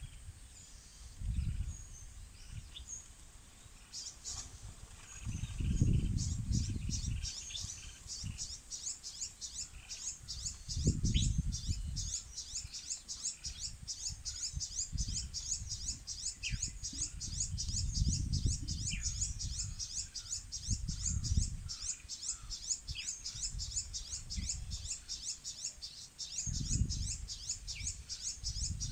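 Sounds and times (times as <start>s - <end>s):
wind buffeting microphone: 0.0s - 3.0s, 4.3s - 8.7s, 9.5s - 25.2s, 26.3s - 28.9s
rapid high-pitched chirping: 5.8s - 28.9s.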